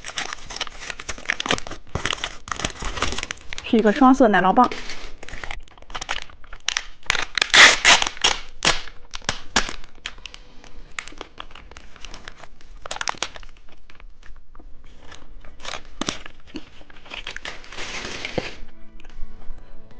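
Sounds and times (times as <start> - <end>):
plastic wrapper crinkling: 0.0 - 18.7
wrapper tearing: 0.0 - 18.7.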